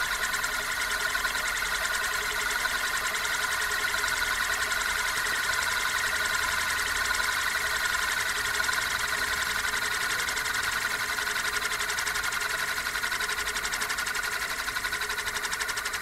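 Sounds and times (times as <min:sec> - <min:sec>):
spinning metal disc whirring rattle: 0:00.0 - 0:16.0.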